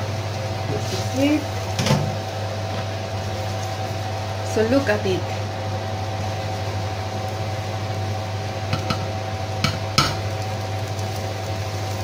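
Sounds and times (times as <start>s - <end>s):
fan-like hum: 0.0s - 12.0s
omelette frying in oil: 0.0s - 12.0s.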